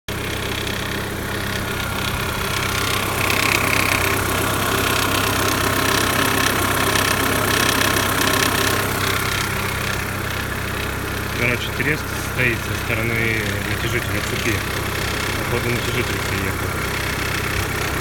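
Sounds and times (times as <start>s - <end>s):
car engine idling: 0.1s - 18.0s
fast ticking rattle: 0.1s - 18.0s.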